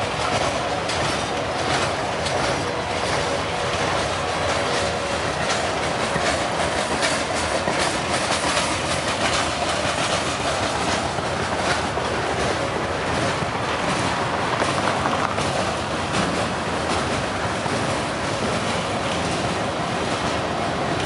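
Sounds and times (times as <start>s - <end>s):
train wheels rumbling on rail: 0.0s - 21.0s
wheels clacking: 0.0s - 21.0s.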